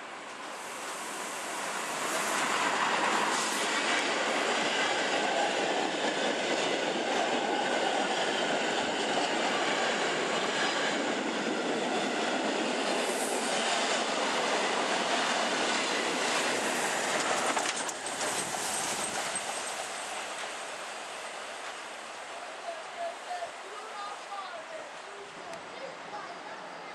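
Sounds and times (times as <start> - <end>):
train wheels rushing on rails: 0.0 - 25.3.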